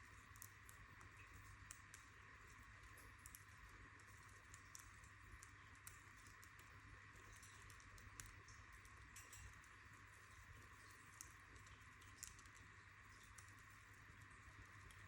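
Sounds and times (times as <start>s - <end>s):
budgies clicking and tapping: 0.2s - 15.0s.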